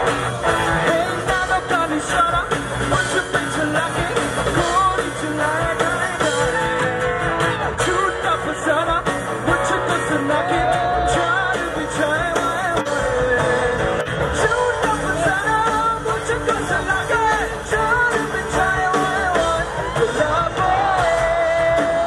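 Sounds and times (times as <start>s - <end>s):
drums: 0.0s - 22.0s
male lead vocals: 0.0s - 22.0s.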